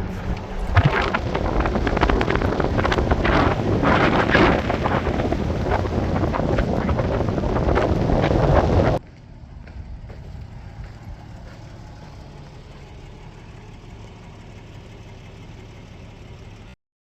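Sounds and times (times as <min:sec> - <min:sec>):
vehicle engine humming: 0:00.0 - 0:16.8.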